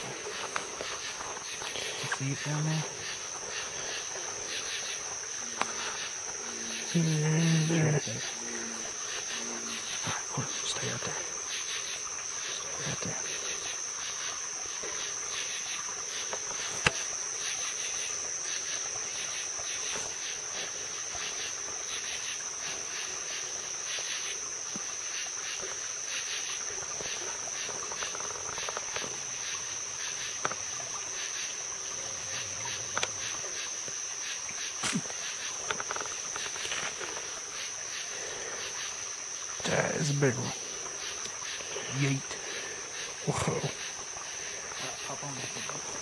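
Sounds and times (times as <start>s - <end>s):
insect chorus trilling: 0.0s - 46.0s.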